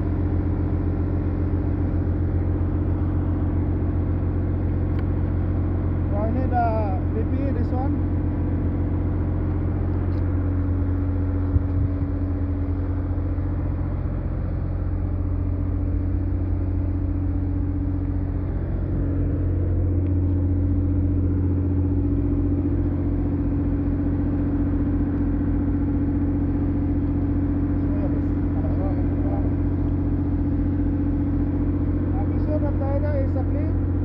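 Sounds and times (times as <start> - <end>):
engine humming: 0.0 - 34.0.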